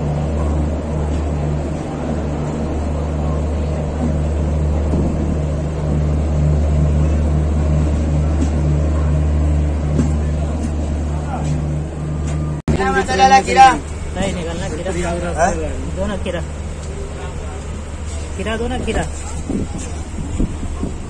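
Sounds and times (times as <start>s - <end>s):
train engine drone: 0.0s - 21.0s.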